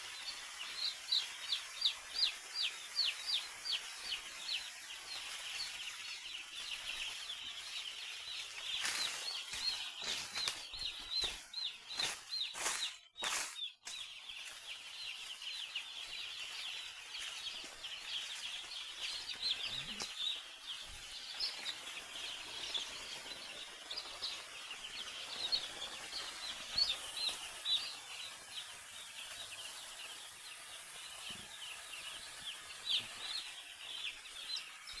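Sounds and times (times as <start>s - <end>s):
chickens calling: 0.0s - 35.0s.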